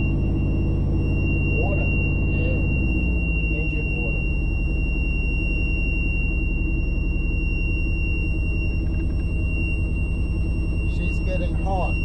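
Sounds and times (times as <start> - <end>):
boat engine running: 0.0 - 12.0
high-pitched alarm tone: 0.0 - 12.0.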